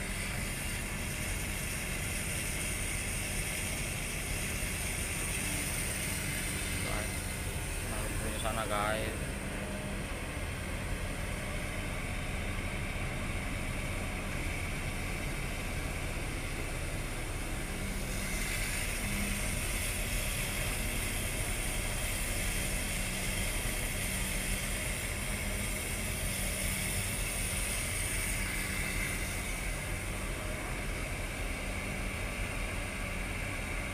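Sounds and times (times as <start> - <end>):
diesel machinery engines droning: 0.0 - 33.9.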